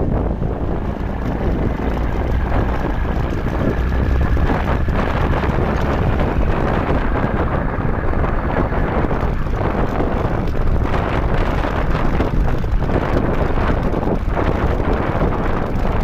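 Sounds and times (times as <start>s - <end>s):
motorcycle running: 0.0s - 16.0s
road noise: 0.0s - 16.0s
wind rushing over microphone: 0.0s - 16.0s.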